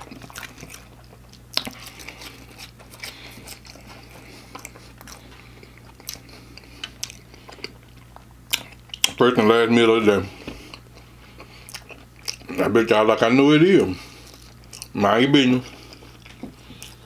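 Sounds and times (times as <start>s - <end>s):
person chewing crispy food: 0.0s - 9.2s, 10.1s - 12.7s, 13.6s - 17.0s
low steady hum: 0.0s - 17.0s.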